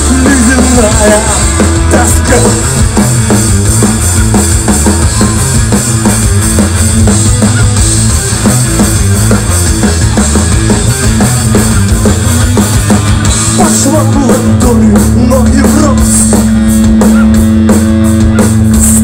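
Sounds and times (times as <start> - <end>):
bass and guitar: 0.0 - 19.0
drum kit beat: 0.0 - 19.0.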